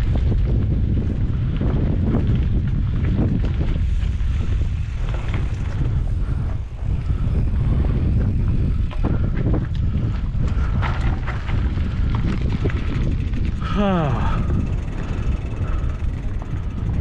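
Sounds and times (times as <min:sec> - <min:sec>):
bike rattles and knocks: 0:00.0 - 0:17.0
wind buffeting microphone: 0:00.0 - 0:17.0.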